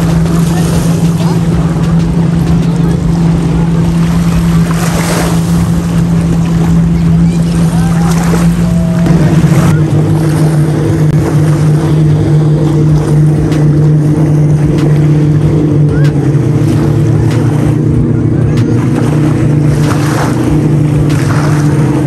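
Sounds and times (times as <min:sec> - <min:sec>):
motorboat engine droning: 0:00.0 - 0:22.0
small waves washing: 0:00.0 - 0:22.0.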